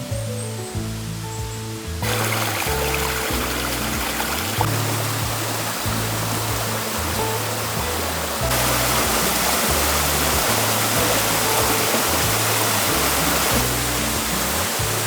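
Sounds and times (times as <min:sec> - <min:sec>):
music with slow bass notes: 0:00.0 - 0:15.0
stream water rushing: 0:02.0 - 0:15.0.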